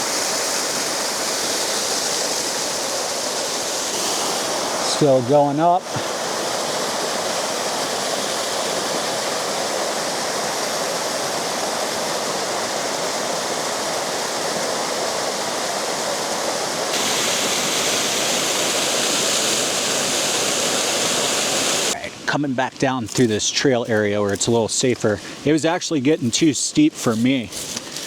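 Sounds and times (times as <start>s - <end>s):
waterfall rushing: 0.0s - 27.6s.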